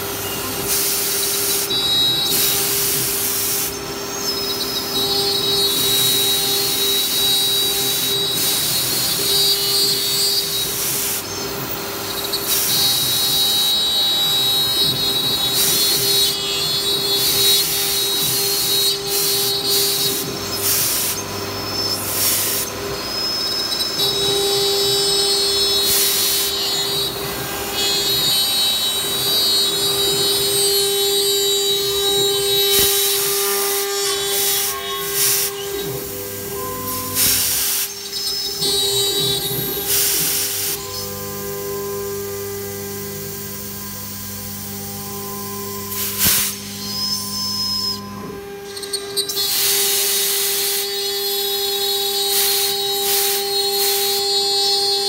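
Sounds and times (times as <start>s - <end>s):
router spindle whine: 0.0s - 55.0s.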